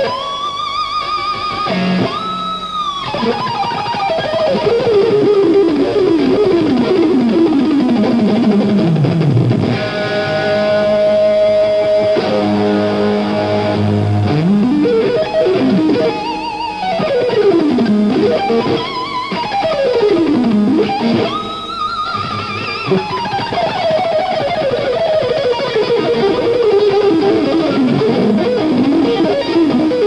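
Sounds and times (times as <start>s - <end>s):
electric guitar solo: 0.0s - 30.0s.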